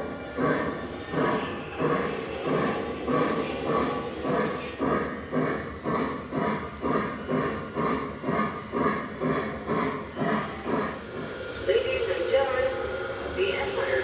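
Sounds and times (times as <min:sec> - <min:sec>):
model steam locomotive chuffing: 0:00.0 - 0:14.0.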